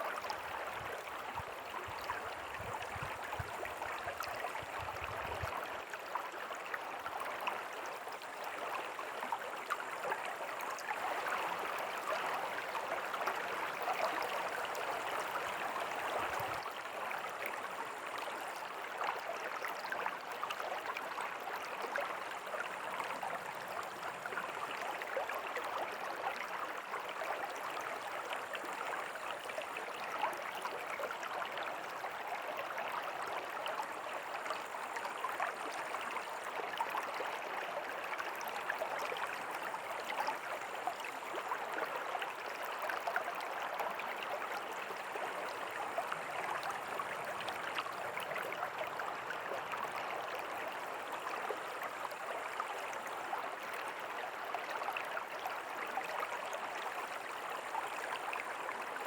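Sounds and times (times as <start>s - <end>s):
river water flowing over stones: 5.7s - 59.0s.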